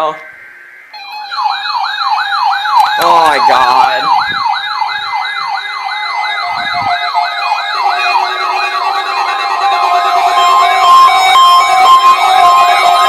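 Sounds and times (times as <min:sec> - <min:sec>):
siren-like alarm wail: 0:00.0 - 0:13.0
steady high tone: 0:00.0 - 0:13.0.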